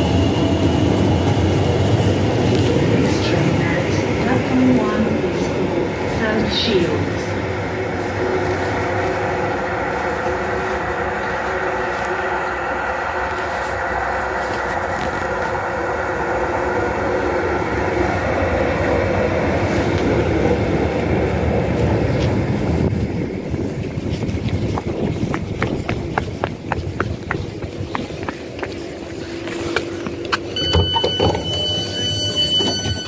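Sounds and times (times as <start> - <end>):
train running hum: 0.0 - 33.0.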